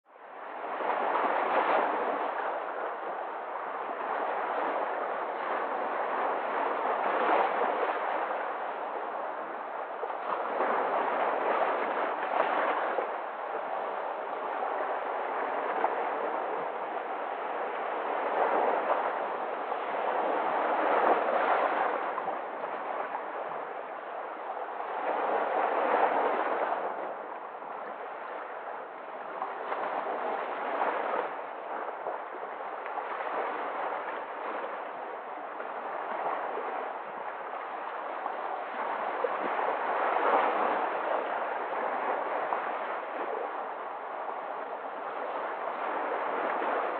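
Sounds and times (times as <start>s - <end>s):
sea waves breaking over rocks: 0.2s - 46.9s.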